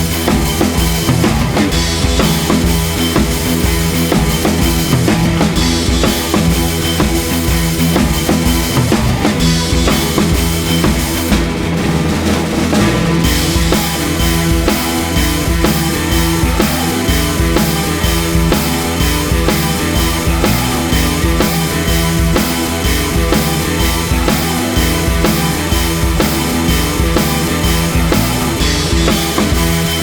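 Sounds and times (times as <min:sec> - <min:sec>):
rock music with drums and guitar: 0:00.0 - 0:30.0.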